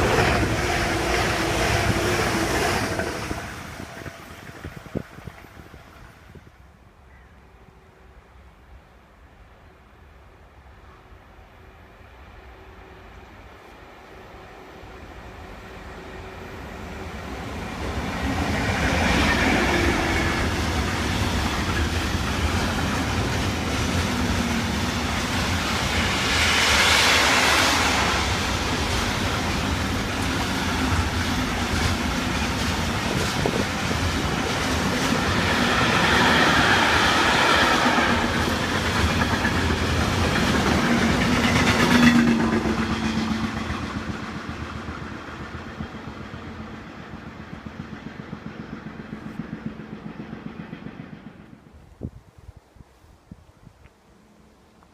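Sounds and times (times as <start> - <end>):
train passing: 0.0 - 53.1.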